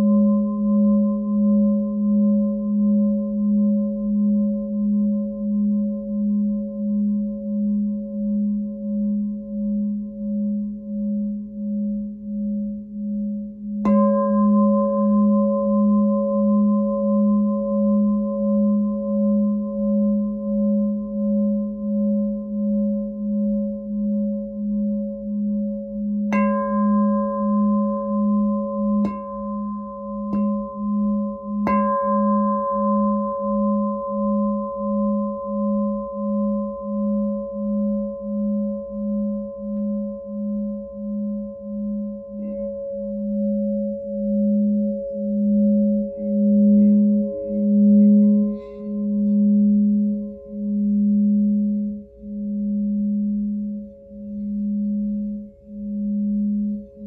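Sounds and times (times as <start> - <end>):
glass singing bowl ringing: 9.0 - 57.0.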